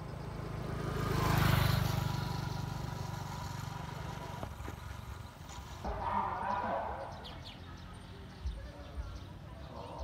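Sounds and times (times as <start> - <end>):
motorbike engine passing: 0.0 - 8.4.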